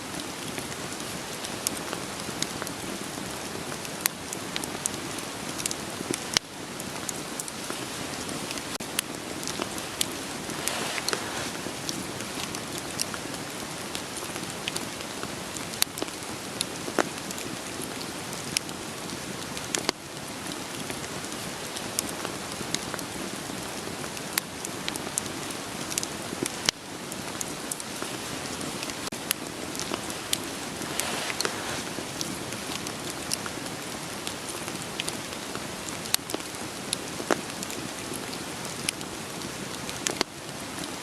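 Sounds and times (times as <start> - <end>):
steady rain: 0.0 - 41.0
firewood crackling: 0.1 - 41.0.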